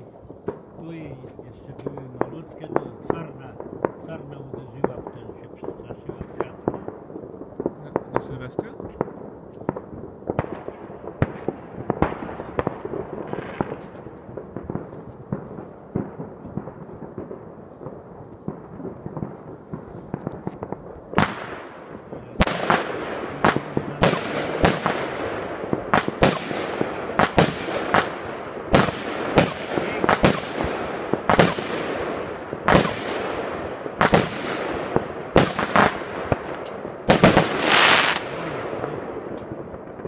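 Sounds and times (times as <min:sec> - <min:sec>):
fireworks bangs and cracks: 0:00.0 - 0:40.0.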